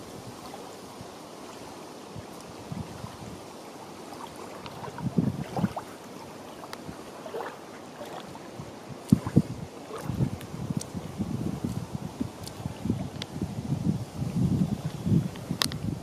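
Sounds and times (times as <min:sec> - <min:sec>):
small waves lapping on shore: 0:00.0 - 0:16.0.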